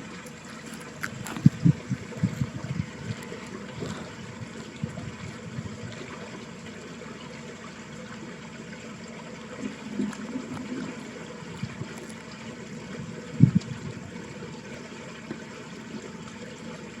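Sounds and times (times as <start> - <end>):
water running along a ditch: 0.0 - 17.0.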